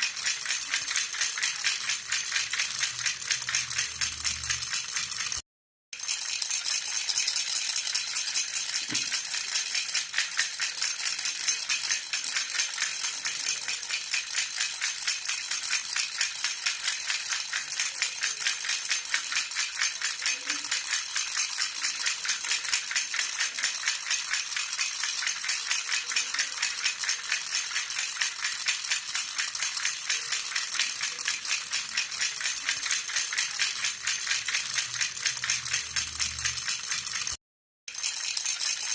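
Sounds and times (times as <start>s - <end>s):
baby rattle shaken: 0.0s - 5.4s, 6.0s - 38.9s.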